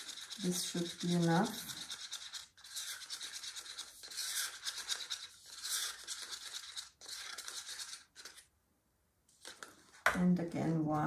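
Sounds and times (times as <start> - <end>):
stick scraping paint in a cup: 0.0 - 8.5, 9.4 - 9.8.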